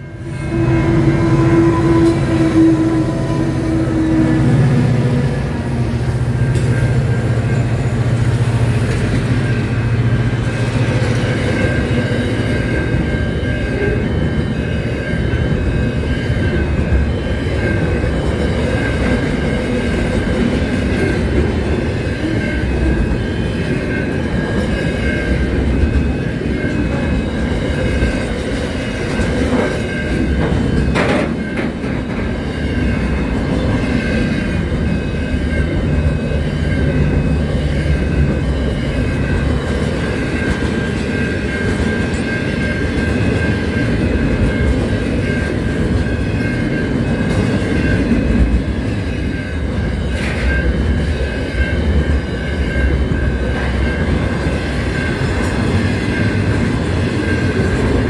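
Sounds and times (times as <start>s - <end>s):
steady high tone: 0.0s - 58.0s
freight train wheels clattering: 0.5s - 58.0s.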